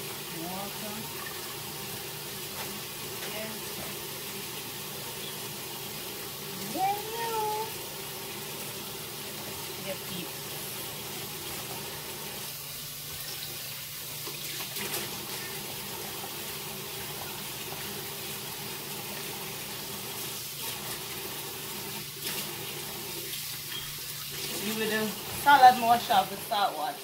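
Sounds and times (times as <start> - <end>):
lettuce leaves rinsed: 0.0 - 27.0.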